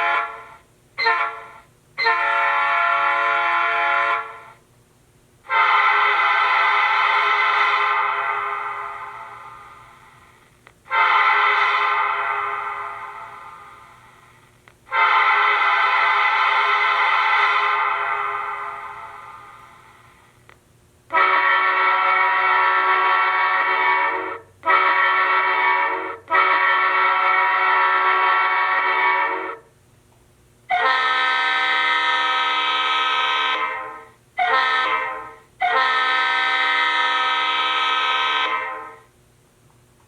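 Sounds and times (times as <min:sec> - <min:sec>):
train air horn through small speaker: 0:00.0 - 0:04.6, 0:05.4 - 0:20.4, 0:21.1 - 0:29.7, 0:30.7 - 0:39.2.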